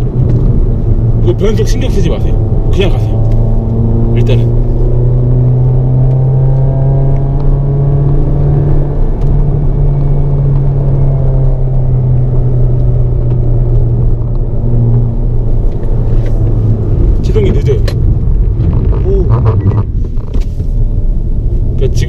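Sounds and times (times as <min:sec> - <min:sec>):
car engine under load from cabin: 0:00.0 - 0:22.0.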